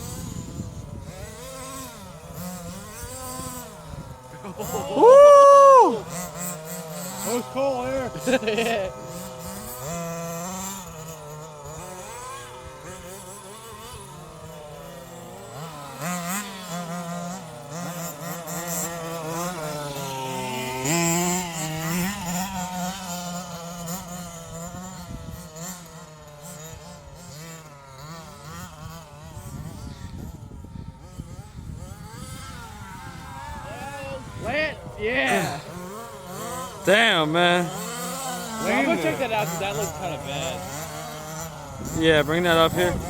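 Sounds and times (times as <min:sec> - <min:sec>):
small engines revving: 0:00.0 - 0:43.0.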